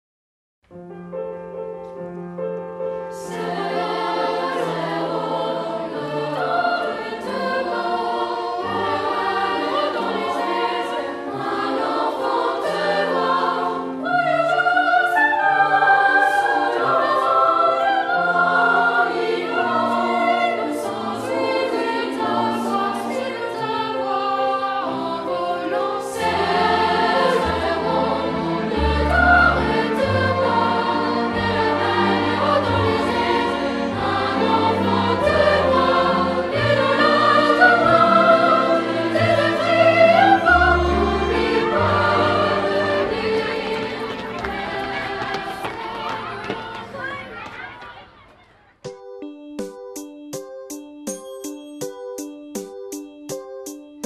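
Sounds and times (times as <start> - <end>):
choir singing: 3.1 - 48.4.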